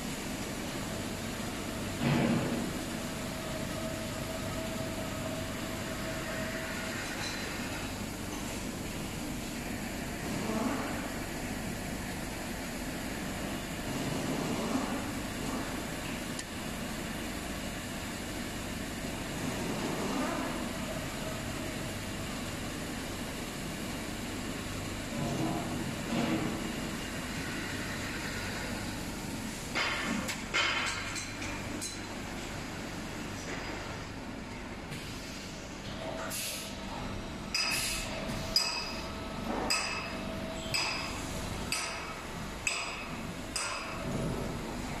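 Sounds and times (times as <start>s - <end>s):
steady machine hum: 0.0s - 45.0s.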